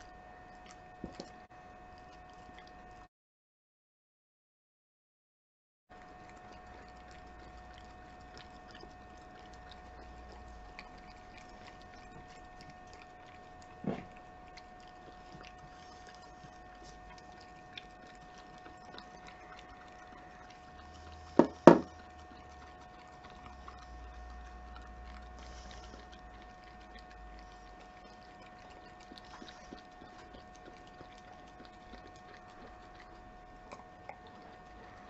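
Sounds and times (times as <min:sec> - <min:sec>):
dog licking and chewing: 0:00.0 - 0:03.1, 0:05.9 - 0:35.0
steady hum: 0:06.0 - 0:35.0.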